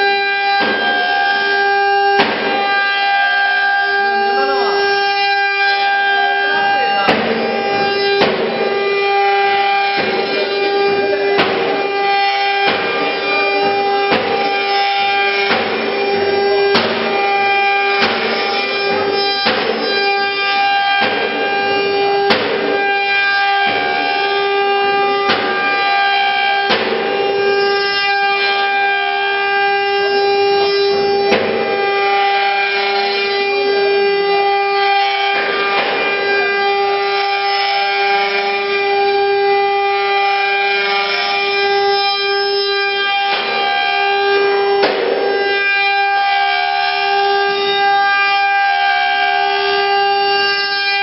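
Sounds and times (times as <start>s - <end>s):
cnc router spindles whining: 0.0s - 51.0s
rasping cutting surge: 0.0s - 51.0s.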